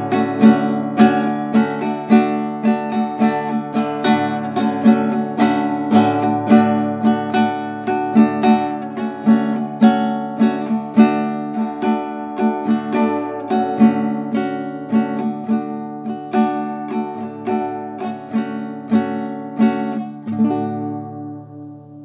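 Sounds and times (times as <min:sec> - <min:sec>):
classical guitar strummed: 0:00.0 - 0:22.0.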